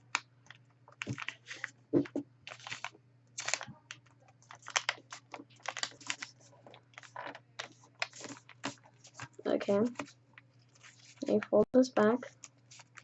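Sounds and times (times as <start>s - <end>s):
paper rustling and crinkling: 0.9s - 11.6s, 12.2s - 13.0s.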